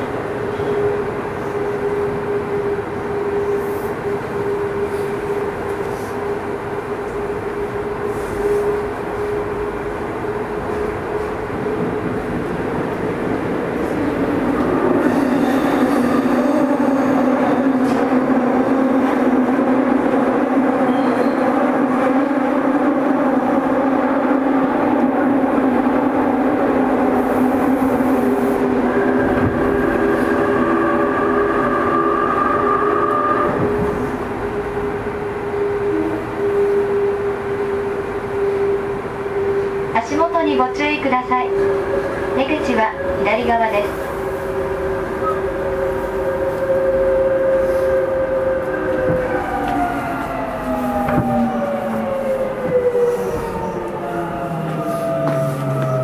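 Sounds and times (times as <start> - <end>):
electric train running in tunnel: 0.0 - 56.0.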